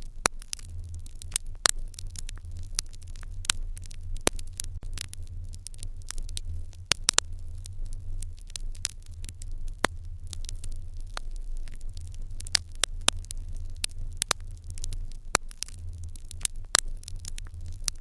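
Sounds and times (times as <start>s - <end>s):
fire crackling in a hearth: 0.0s - 18.0s.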